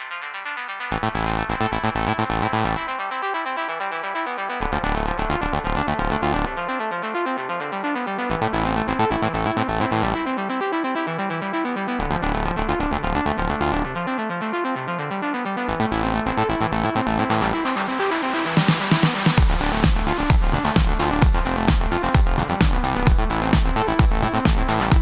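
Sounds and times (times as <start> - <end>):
electronic trance music: 0.0 - 25.0.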